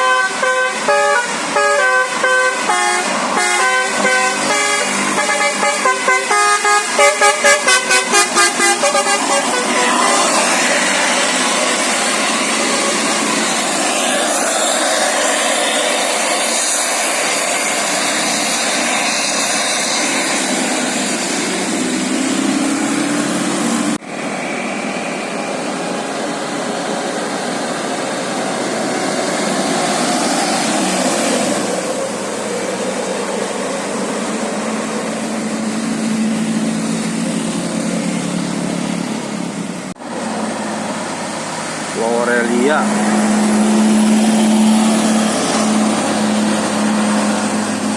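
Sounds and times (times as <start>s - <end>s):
bus engines: 0.0s - 47.9s
road traffic rushing: 0.0s - 47.9s.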